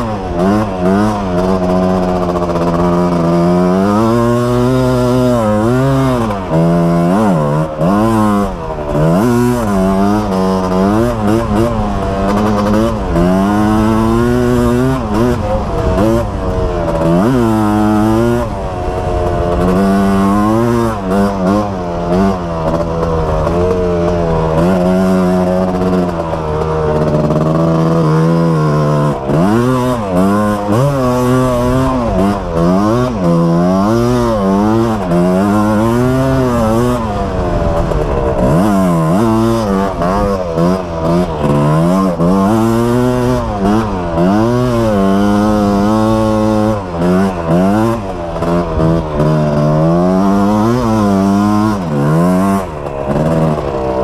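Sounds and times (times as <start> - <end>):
two-stroke engine revving: 0.0 - 54.0.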